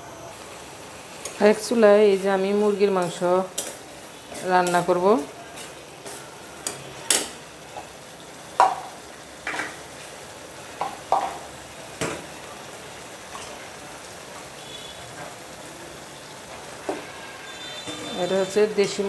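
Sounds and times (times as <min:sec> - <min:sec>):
paste sizzling in hot oil: 0:00.2 - 0:19.0.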